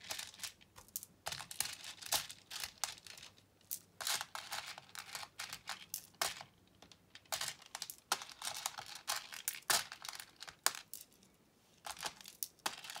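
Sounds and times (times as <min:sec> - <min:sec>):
plastic beads clattering: 0:00.0 - 0:13.0.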